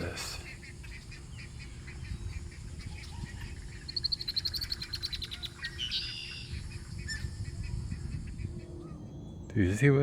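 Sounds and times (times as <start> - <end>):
small bird chirping: 0.4 - 9.6.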